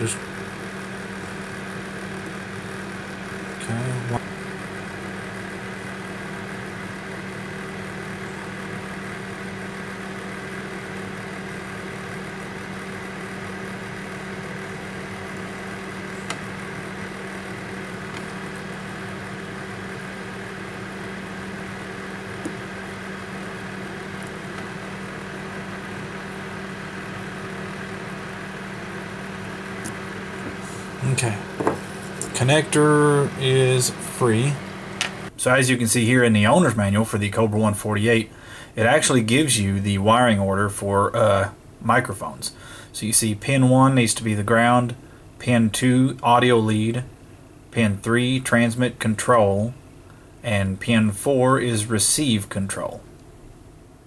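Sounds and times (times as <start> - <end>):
constant hiss: 0.0 - 54.0
electrical hum: 0.0 - 54.0.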